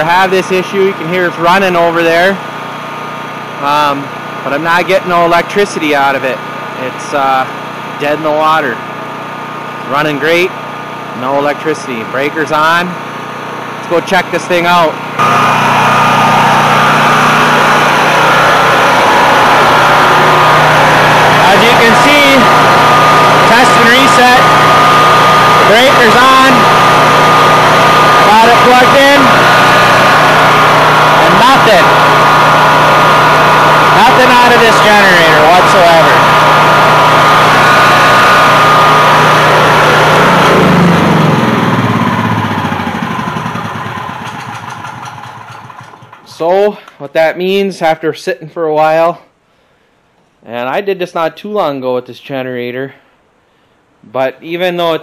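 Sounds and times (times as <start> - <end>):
generator engine running: 0.0 - 47.0.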